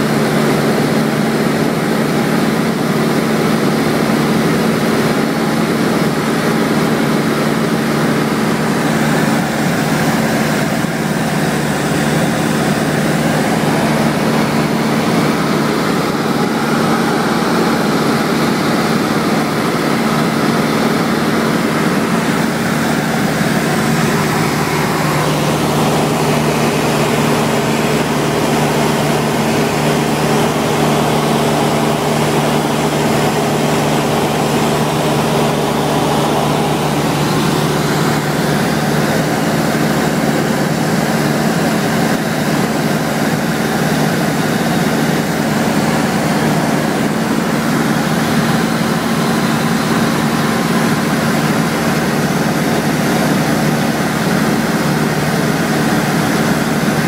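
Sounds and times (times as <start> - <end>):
airplane engine and propeller hum: 0.0 - 57.0.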